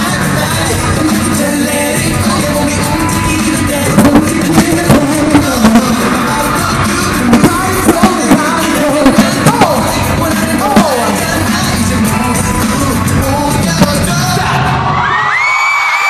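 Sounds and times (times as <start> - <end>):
person singing: 0.0 - 14.8
pop band playing: 0.0 - 16.0
hard regular drum hits: 0.1 - 14.4.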